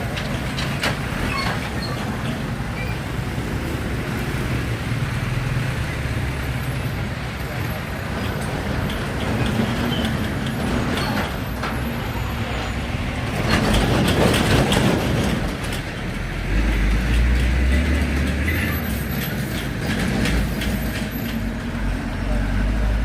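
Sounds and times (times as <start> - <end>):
heavy vehicle traffic: 0.0 - 23.0.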